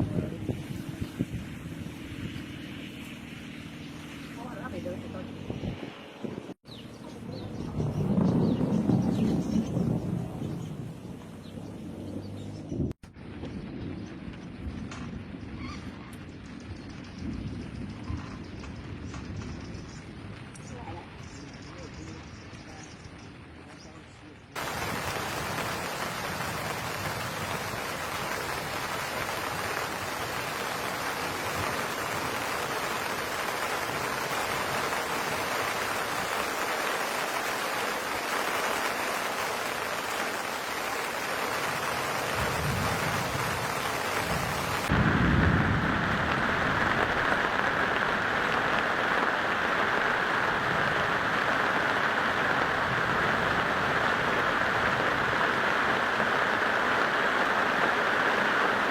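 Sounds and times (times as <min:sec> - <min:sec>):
rain rushing: 0:00.0 - 0:23.6, 0:24.5 - 0:58.9.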